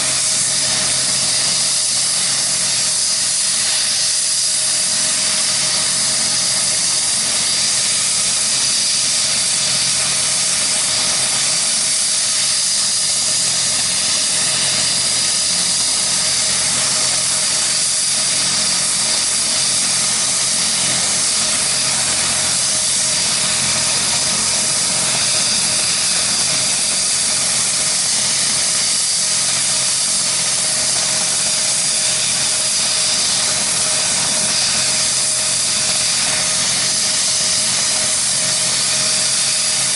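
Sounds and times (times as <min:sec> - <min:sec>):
helicopter turbine whine: 0:00.0 - 0:39.9
loud hiss: 0:00.0 - 0:39.9.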